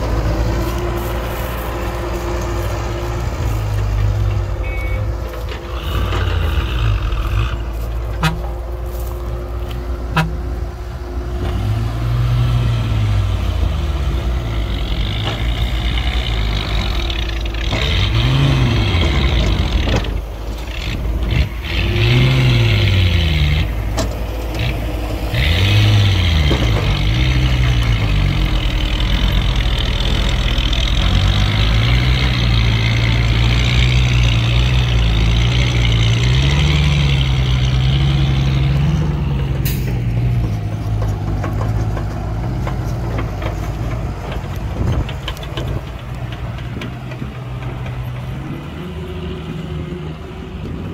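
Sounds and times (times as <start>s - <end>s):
diesel engine revving: 0.0s - 50.9s.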